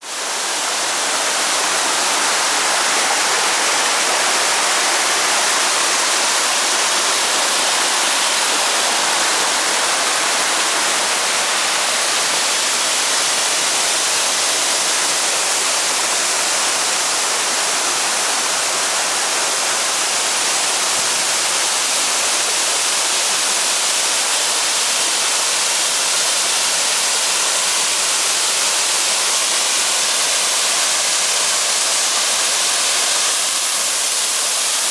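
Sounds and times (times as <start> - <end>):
waterfall pouring: 0.0 - 34.9.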